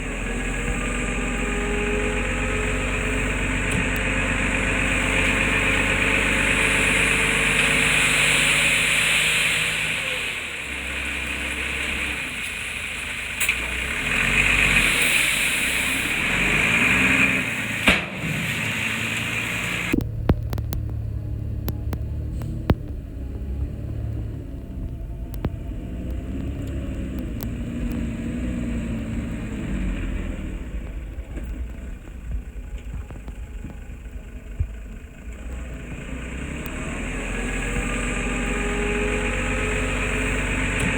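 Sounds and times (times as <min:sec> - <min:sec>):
diesel engine low rumble: 0:00.0 - 0:40.9.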